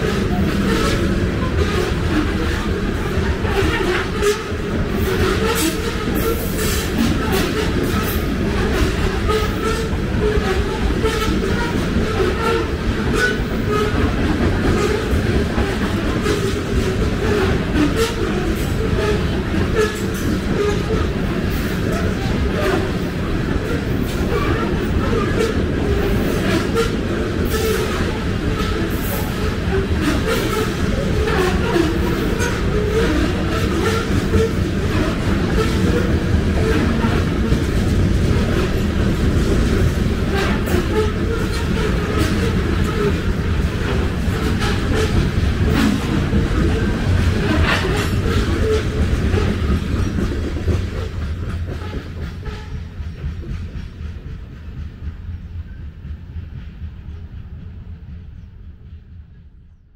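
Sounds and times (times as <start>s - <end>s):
wheels clacking over rail joints: 0.0s - 54.5s
train wheels rumbling on rail: 0.0s - 59.9s.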